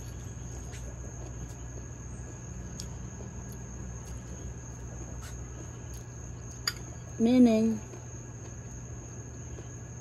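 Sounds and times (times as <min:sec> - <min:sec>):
insects droning: 0:00.0 - 0:10.0
low steady hum: 0:00.0 - 0:10.0.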